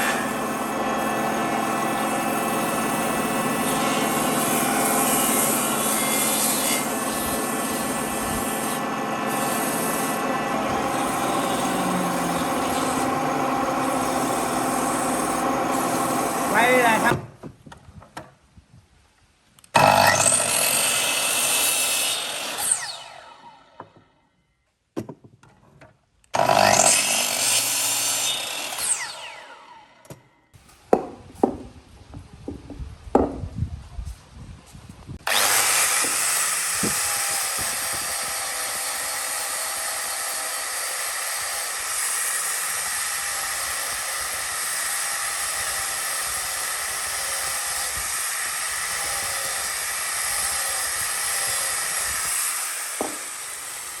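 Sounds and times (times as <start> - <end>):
power tool working wood: 0.0 - 17.2, 19.8 - 24.0, 26.3 - 30.2, 35.2 - 54.0.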